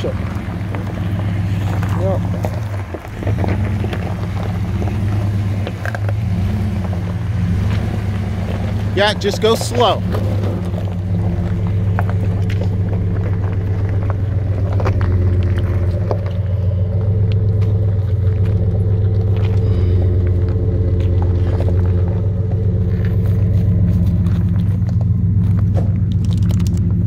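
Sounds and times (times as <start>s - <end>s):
stones crunching under tyres: 0.0s - 27.0s
truck engine rumbling: 0.0s - 27.0s.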